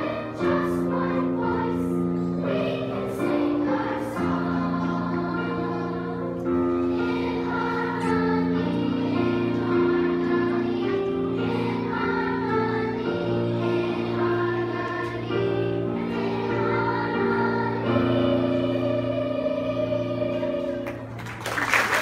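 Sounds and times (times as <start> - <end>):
children's choir singing: 0.0 - 21.2.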